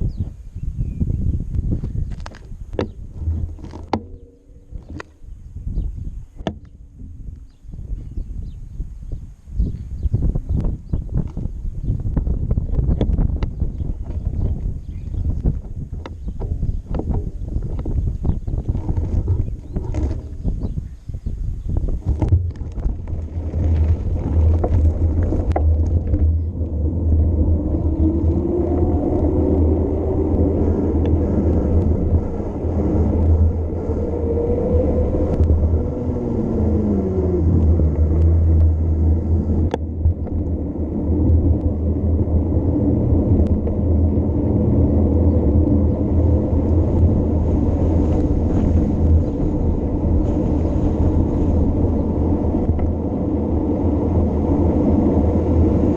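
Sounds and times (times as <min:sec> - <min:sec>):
wind rumble on microphone: 0:00.0 - 0:55.9.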